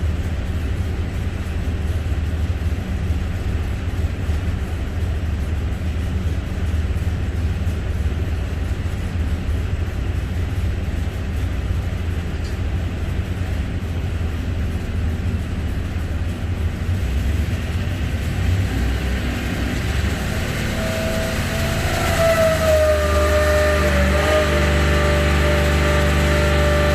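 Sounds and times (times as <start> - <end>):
race engine droning: 0.0 - 26.9.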